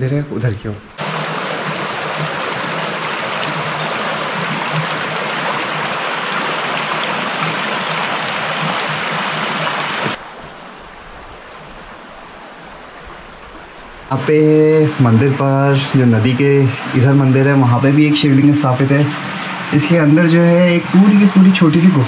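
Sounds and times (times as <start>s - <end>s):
river water rushing: 1.0s - 22.0s.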